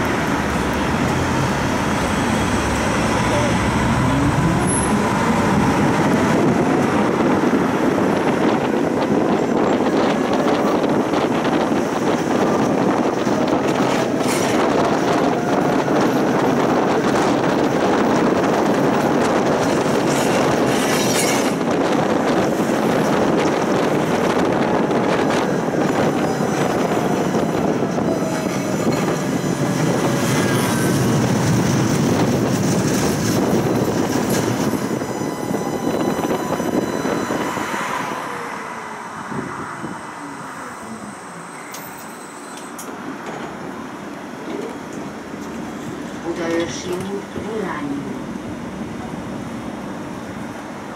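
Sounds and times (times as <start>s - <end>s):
tram wheels rumbling on rails: 0.0s - 50.9s.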